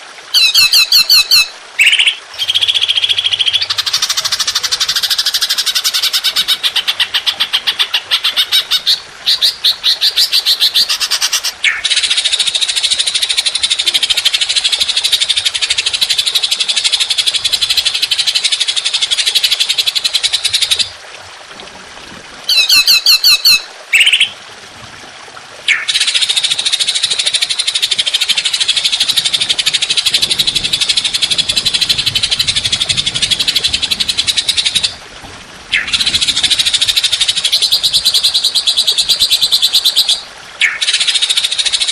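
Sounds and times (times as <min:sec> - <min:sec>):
harsh chattering bird song: 0:00.4 - 0:17.1, 0:22.5 - 0:24.3, 0:25.7 - 0:35.0, 0:35.7 - 0:41.9.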